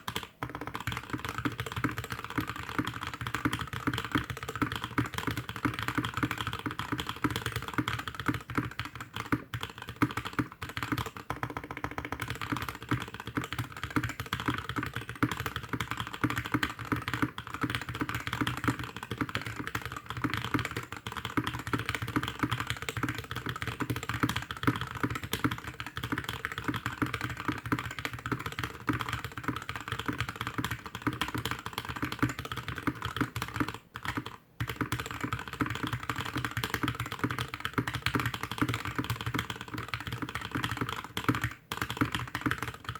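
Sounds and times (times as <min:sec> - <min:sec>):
mechanical keyboard typing: 0:00.0 - 0:42.9.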